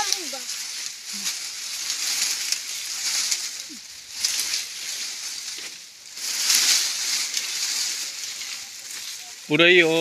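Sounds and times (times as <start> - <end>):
dry bean plants rustling: 0.0 - 10.0.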